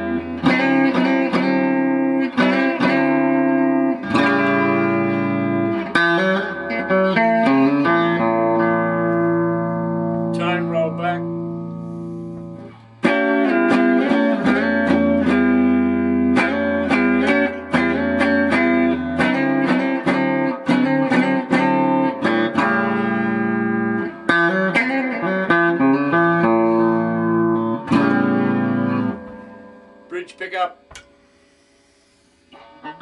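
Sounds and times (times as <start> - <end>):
clean electric guitar chords: 0.0 - 31.4.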